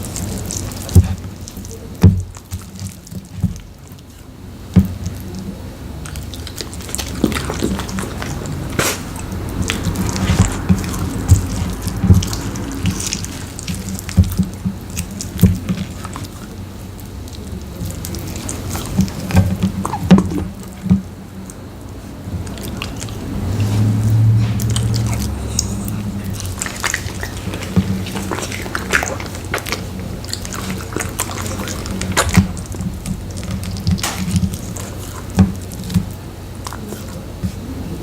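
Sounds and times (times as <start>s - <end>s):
dog chewing and licking: 0.0s - 38.0s.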